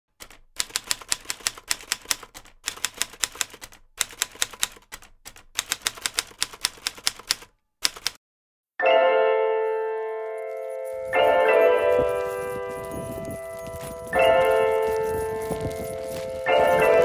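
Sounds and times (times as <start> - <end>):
typewriter keys clacking: 0.1 - 8.2, 10.3 - 17.0.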